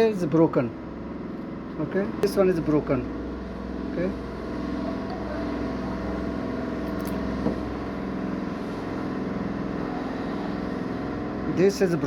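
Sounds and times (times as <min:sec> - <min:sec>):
machine humming: 0:00.8 - 0:11.6.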